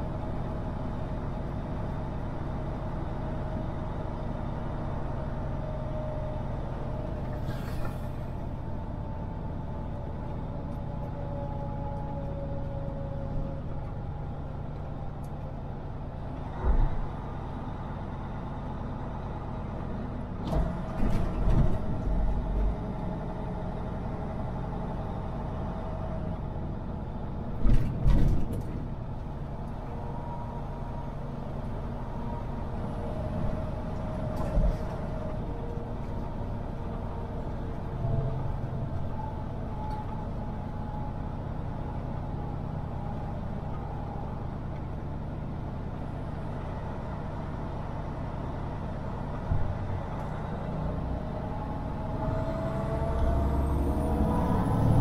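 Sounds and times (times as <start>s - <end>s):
truck engine and tyres droning: 0.0s - 55.0s.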